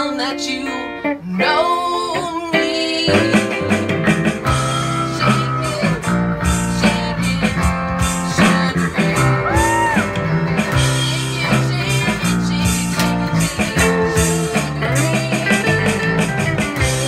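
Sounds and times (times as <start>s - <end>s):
electric guitar: 0.0s - 17.0s
strummed acoustic guitar: 0.0s - 17.0s
bass line: 3.0s - 17.0s.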